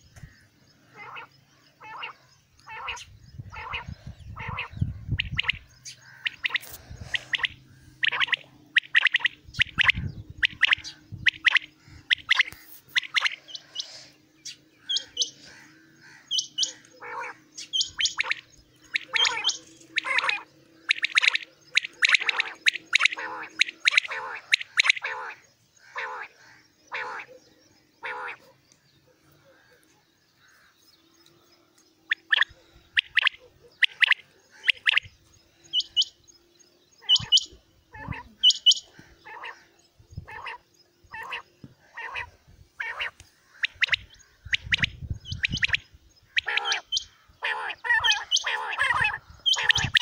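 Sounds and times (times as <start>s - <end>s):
quails calling: 0.0s - 31.4s, 32.0s - 36.2s, 37.0s - 50.0s.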